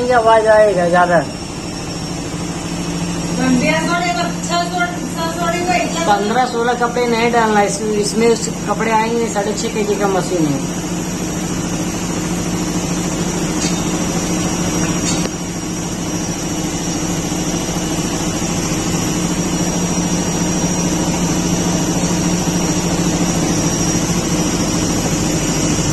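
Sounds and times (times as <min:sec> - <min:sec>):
thin high whine: 0:00.0 - 0:25.9
washing machine running: 0:00.0 - 0:25.9.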